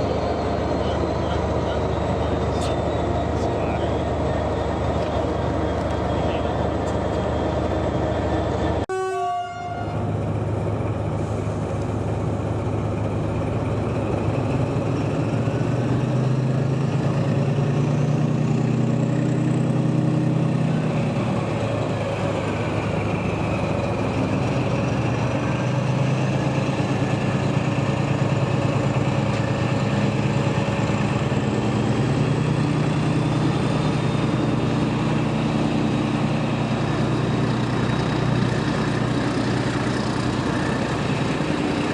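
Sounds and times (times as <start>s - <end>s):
diesel locomotive engine running: 0.0s - 41.9s.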